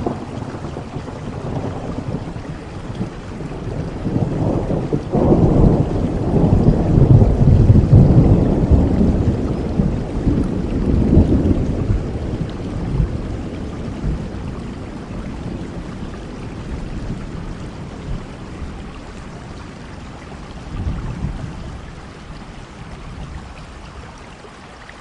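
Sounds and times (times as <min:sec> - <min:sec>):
rolling thunder: 0:00.0 - 0:23.6
steady rain: 0:00.0 - 0:25.0.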